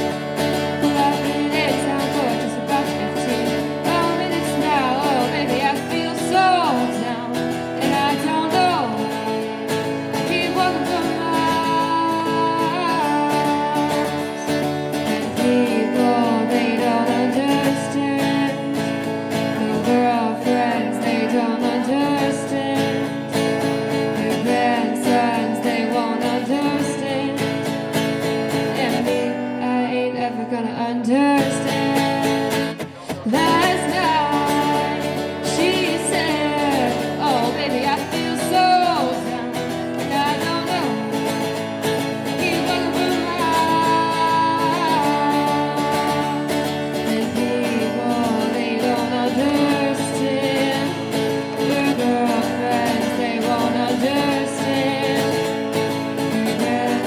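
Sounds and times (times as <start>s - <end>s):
strummed acoustic guitar: 0.0s - 57.0s
woman singing: 0.0s - 57.0s.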